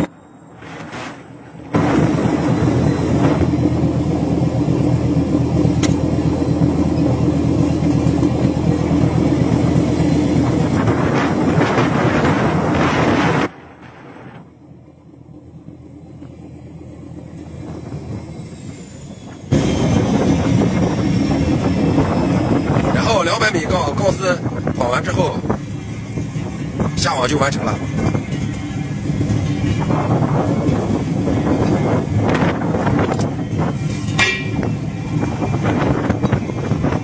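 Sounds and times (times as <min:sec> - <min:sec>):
boat diesel engine drone: 0:00.0 - 0:37.0.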